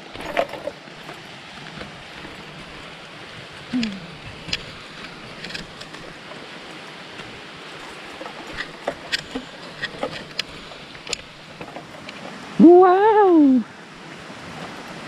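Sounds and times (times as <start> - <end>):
small waterfall rushing: 0.0 - 15.0.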